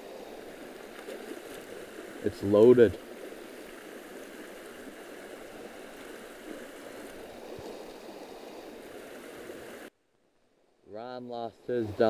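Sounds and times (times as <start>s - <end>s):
creek flowing over gravel: 0.0s - 9.9s.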